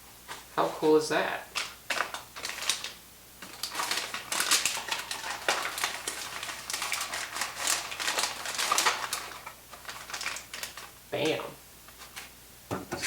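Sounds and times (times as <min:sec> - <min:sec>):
plastic and foil packaging crinkling: 0:01.4 - 0:12.3.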